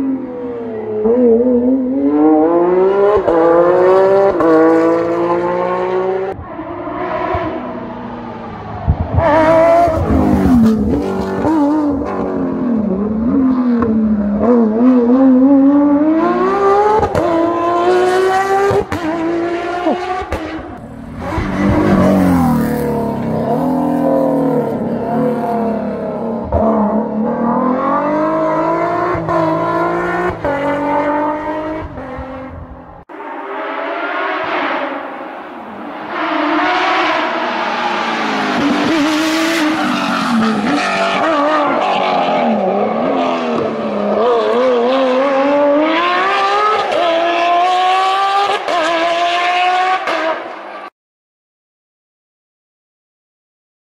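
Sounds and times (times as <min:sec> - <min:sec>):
rally car engine revving: 0:00.0 - 0:06.4, 0:07.0 - 0:50.8.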